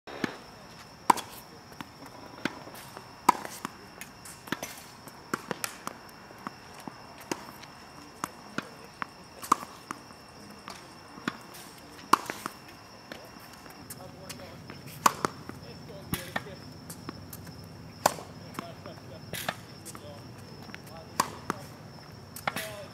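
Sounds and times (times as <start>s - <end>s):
tennis ball bouncing: 0.1s - 22.9s
racket striking tennis ball: 0.2s - 22.9s.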